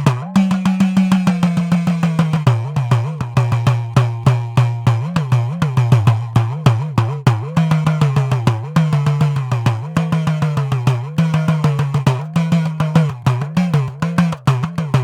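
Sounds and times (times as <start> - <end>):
hourglass drum with bending pitch: 0.0 - 15.0.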